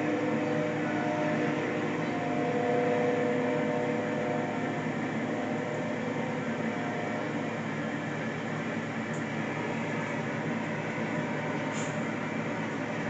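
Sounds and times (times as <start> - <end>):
faint drawn-out tones: 0.0 - 13.0
train cars rumbling and rattling: 0.0 - 13.0.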